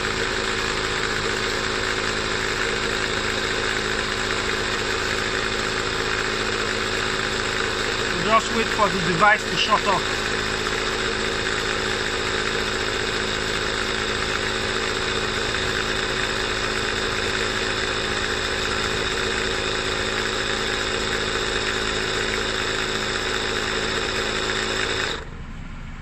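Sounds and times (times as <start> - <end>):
tire inflator humming: 0.0 - 26.0.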